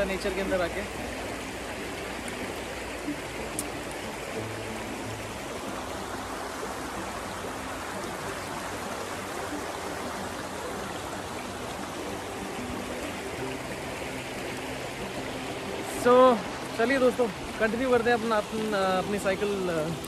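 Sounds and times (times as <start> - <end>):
stream babbling over rocks: 0.0 - 20.0.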